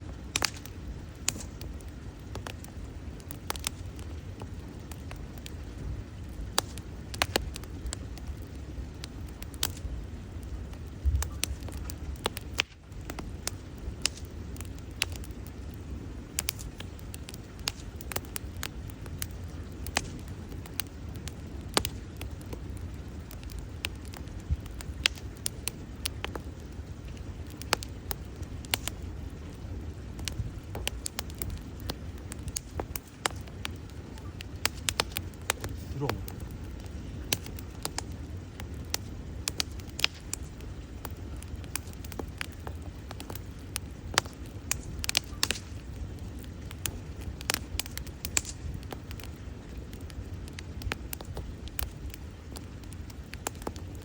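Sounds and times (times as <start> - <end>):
logs crackling and popping: 0.0 - 54.0
low rumble of fire: 0.0 - 54.0.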